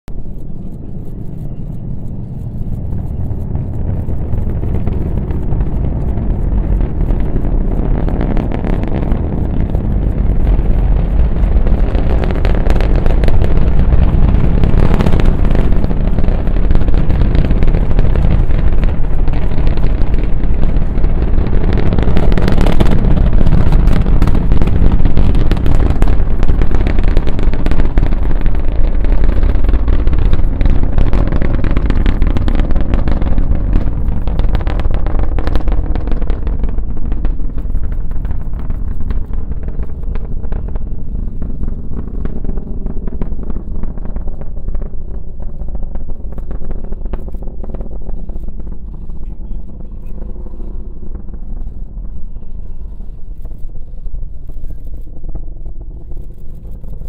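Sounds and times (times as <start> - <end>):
rocket engines rumbling and crackling: 0.0 - 57.0.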